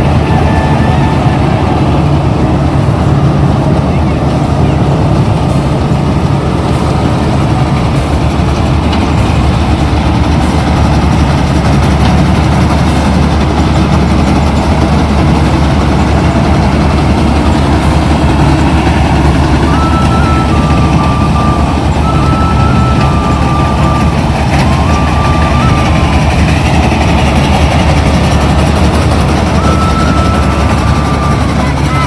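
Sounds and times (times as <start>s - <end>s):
combine harvester engine running: 0.0s - 32.0s.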